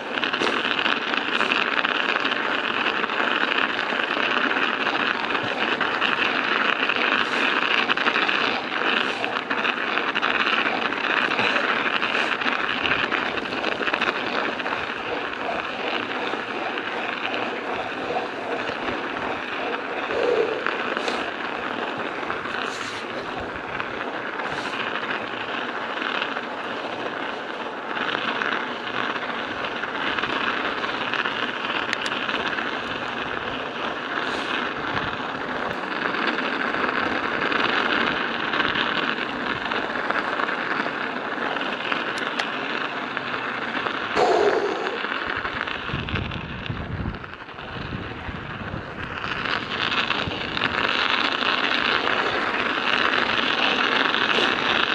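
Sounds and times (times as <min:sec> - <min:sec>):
studded tyres crunching on ice: 0:00.0 - 0:54.9.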